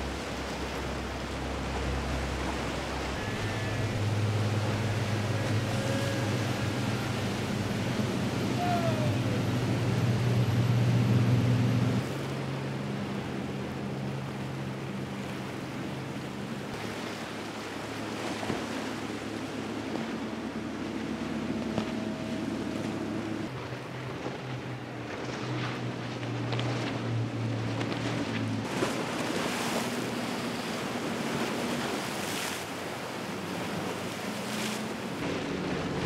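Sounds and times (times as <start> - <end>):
motorboat engines droning: 0.0 - 36.0
waves and wake rushing: 0.0 - 36.0.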